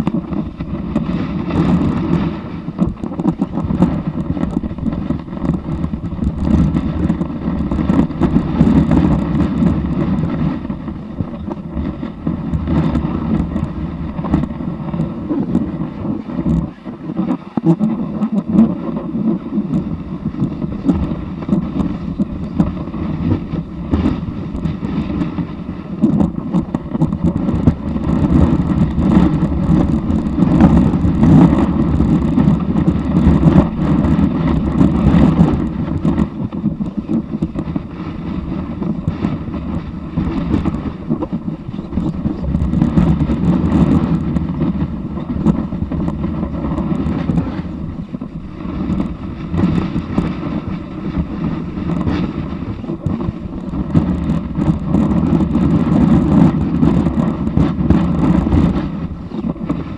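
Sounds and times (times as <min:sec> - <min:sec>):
snowboard scraping over snow: 0:00.0 - 0:59.9
wind on the microphone: 0:00.0 - 0:59.9.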